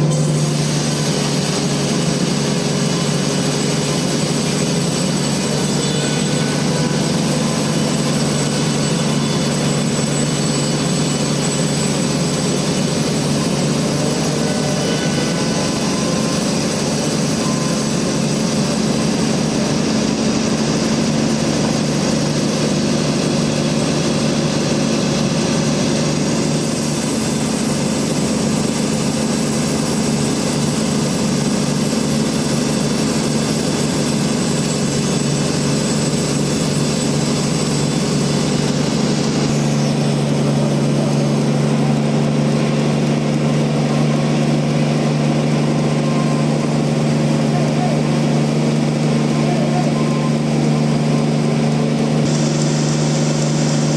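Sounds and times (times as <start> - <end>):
band sawmill droning: 0.0 - 53.9.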